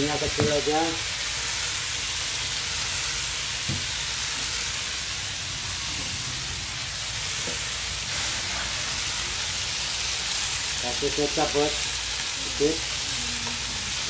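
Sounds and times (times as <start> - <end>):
chicken sizzling in pan: 0.0 - 14.0.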